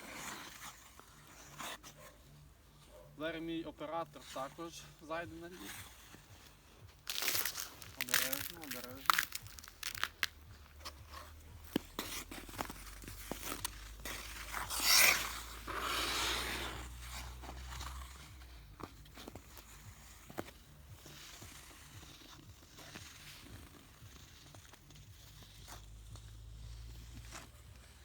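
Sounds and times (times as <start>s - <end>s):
ice skate blades scraping ice: 0.0s - 3.0s, 3.8s - 28.0s.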